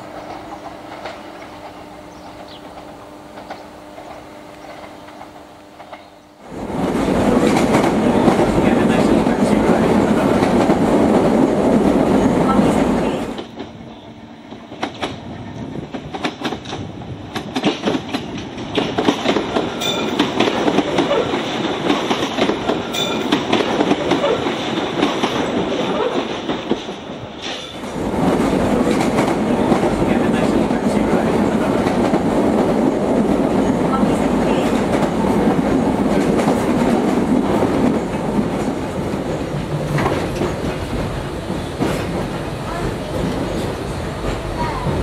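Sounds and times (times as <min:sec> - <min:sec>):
wheels clicking over rail joints: 0:00.0 - 0:13.8, 0:14.5 - 0:45.0
electric train rumble: 0:00.0 - 0:45.0.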